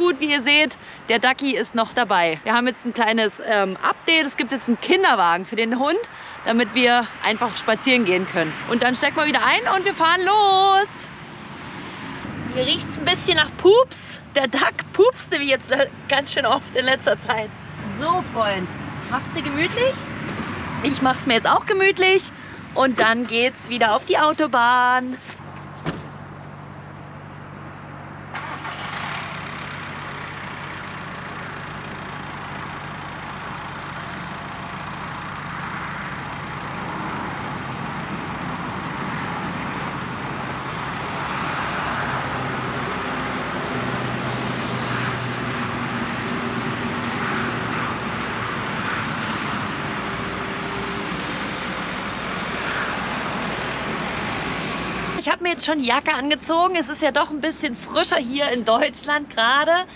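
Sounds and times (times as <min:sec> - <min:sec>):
van engine hum and road noise: 0:00.0 - 0:59.9.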